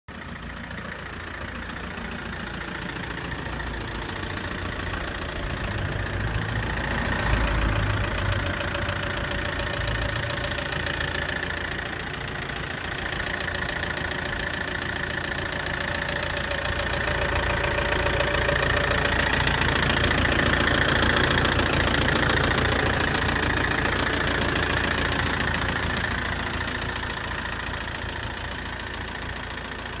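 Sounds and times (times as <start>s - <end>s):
car engine running: 0.1s - 30.0s
loud rapid engine clicking: 0.1s - 30.0s.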